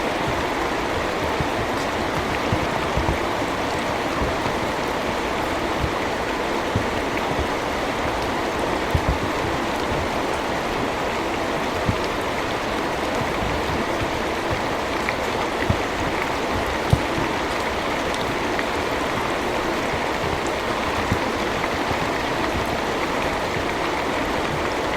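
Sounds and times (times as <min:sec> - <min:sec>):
heavy rain falling: 0:00.0 - 0:24.9.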